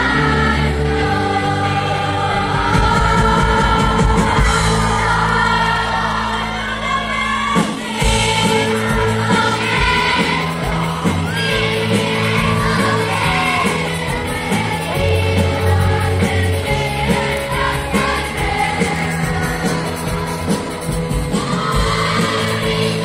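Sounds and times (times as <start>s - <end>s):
band accompaniment: 0.0s - 23.0s
children's choir singing carol: 0.0s - 23.0s.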